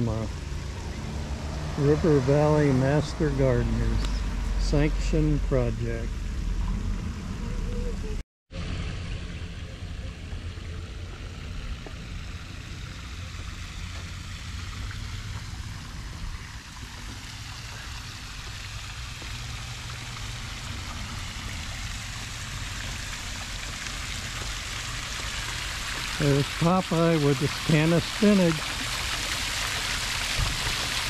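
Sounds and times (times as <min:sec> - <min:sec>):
fountain water splashing: 0:00.0 - 0:06.4, 0:07.2 - 0:31.0.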